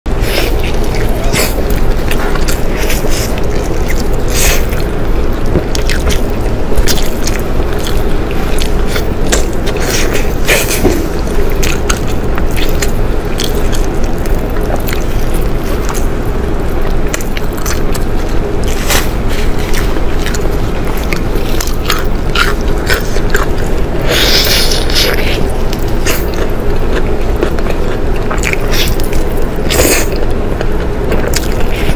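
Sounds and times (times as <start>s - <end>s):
constant low hum: 0.1s - 31.9s
wet biting and chewing: 0.1s - 31.9s.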